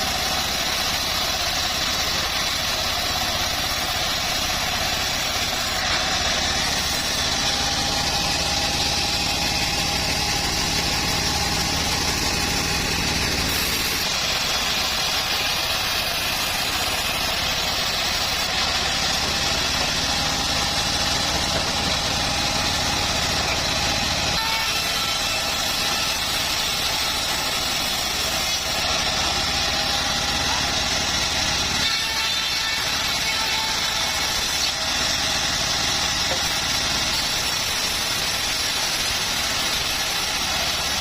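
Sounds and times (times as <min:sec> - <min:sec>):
bandsaw mill running: 0:00.0 - 0:41.0.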